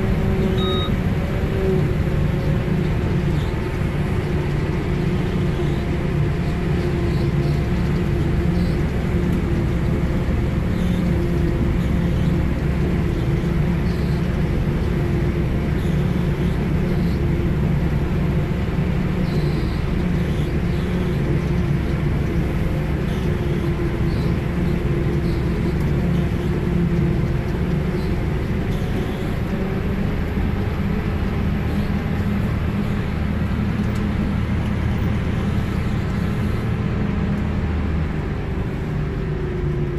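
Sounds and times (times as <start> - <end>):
harvester engine and chopping drone: 0.0 - 39.9.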